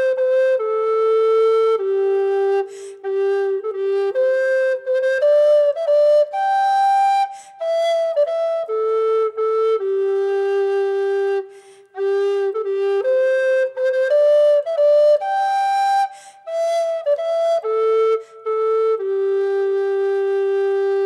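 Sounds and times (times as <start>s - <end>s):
solo wind instrument melody: 0.0s - 21.0s.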